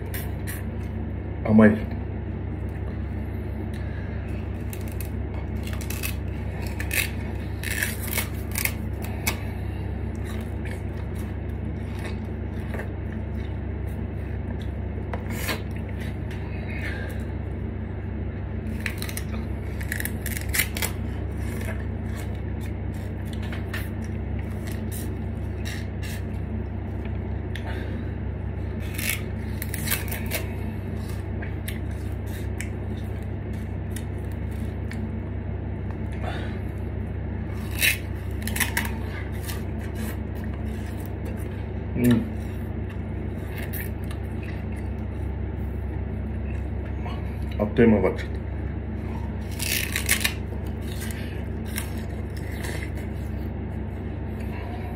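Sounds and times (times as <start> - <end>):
sugarcane being bitten and chewed: 0.0 - 1.0, 3.6 - 47.6, 49.0 - 54.6
steady low hum: 0.0 - 54.9.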